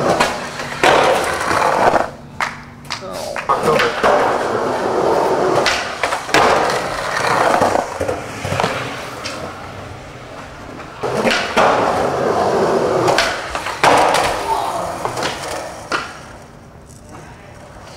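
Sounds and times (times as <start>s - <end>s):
skateboard slapping pavement: 0.0s - 16.6s
skateboard wheels rolling on concrete: 0.0s - 17.9s.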